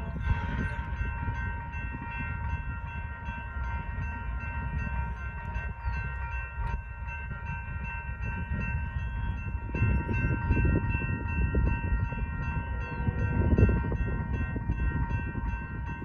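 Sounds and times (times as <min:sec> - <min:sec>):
crossing bells ringing: 0:00.0 - 0:16.0
freight train rumbling: 0:00.0 - 0:16.0.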